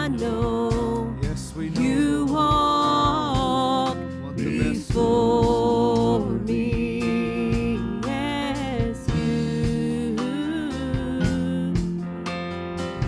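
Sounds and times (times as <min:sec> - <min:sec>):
guitar accompaniment: 0:00.0 - 0:13.0
worship song: 0:00.0 - 0:13.0.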